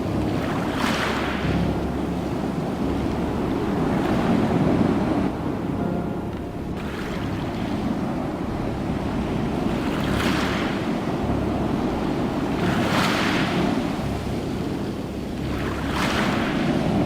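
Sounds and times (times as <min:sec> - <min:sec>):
surf rumbling: 0:00.0 - 0:17.0.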